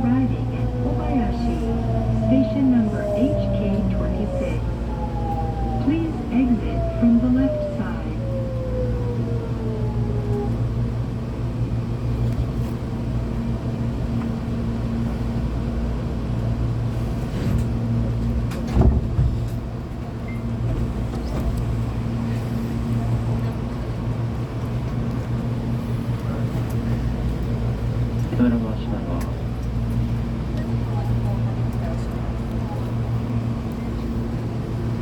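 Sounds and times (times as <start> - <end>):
low hum of train equipment: 0.0 - 35.0
train inverter whine: 0.0 - 35.0.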